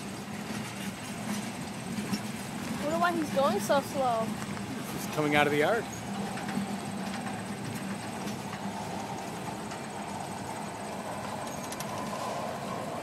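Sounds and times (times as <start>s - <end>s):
train wheels running on track: 0.0s - 13.0s.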